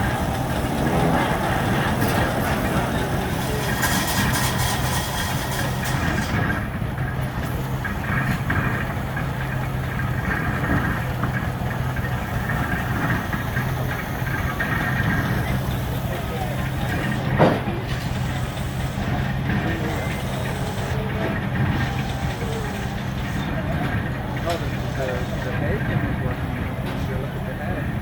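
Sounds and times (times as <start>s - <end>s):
steam engine running: 0.0s - 28.0s.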